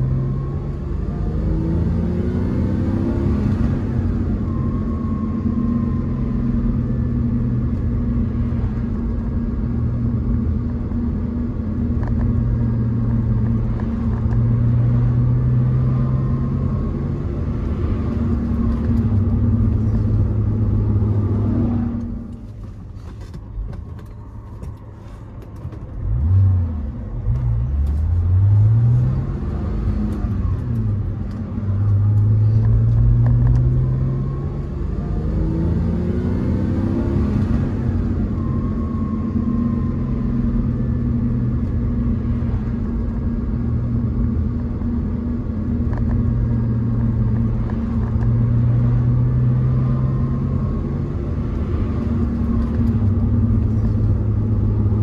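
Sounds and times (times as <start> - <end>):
car engine while driving: 0.0 - 55.0.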